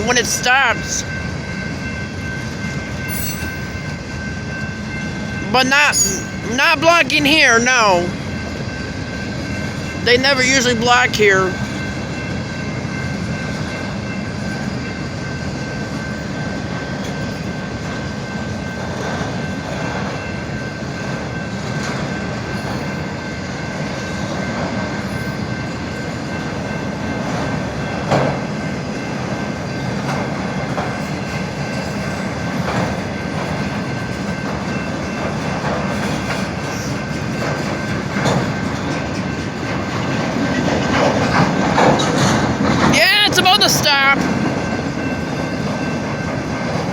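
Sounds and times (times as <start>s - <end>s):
train squeaks and clanks: 0.0s - 6.7s, 7.8s - 46.9s
freight train rumbling and clattering: 0.0s - 46.9s.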